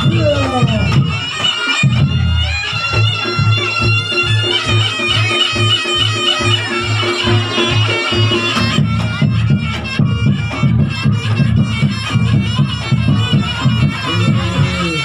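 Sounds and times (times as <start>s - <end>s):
drum and gong beat: 0.0s - 15.0s
shawm playing nasal melody: 0.0s - 15.0s.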